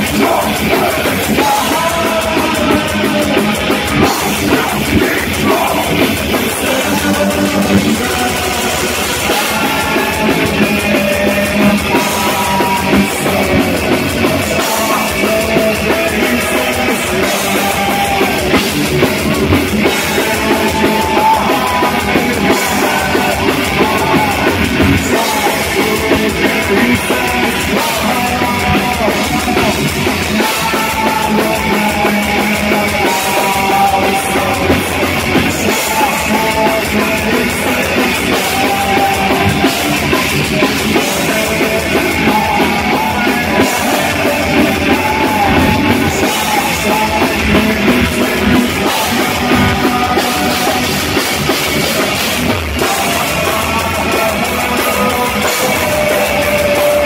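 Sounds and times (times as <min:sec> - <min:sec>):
heavy metal band playing: 0:00.0 - 0:57.0
pounding drum kit: 0:00.0 - 0:57.0.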